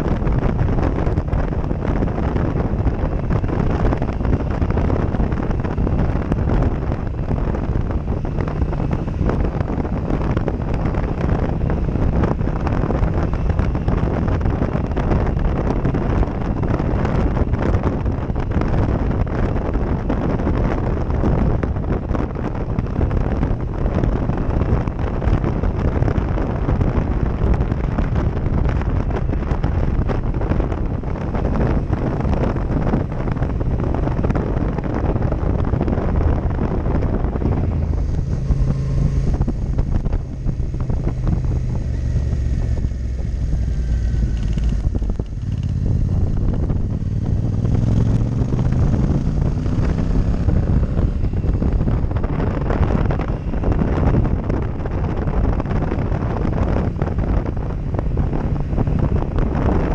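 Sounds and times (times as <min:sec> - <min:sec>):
motorcycle engine: 0:00.0 - 0:59.9
wind buffeting microphone: 0:00.0 - 0:59.9.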